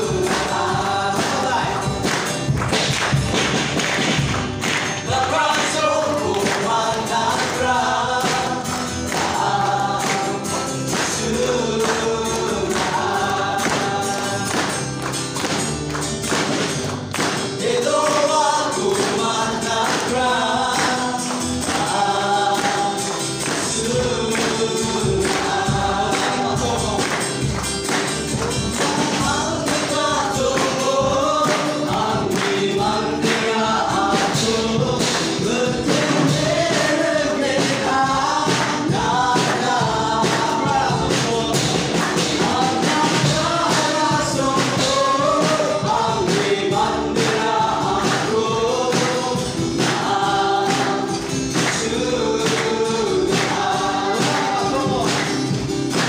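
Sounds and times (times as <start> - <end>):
acoustic and electric guitars: 0.0 - 56.0
group singing worship song: 0.0 - 56.0.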